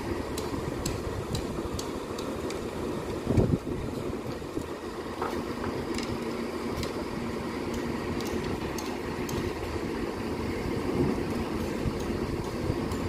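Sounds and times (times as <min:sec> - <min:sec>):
diesel truck engines rumbling: 0:00.0 - 0:13.0.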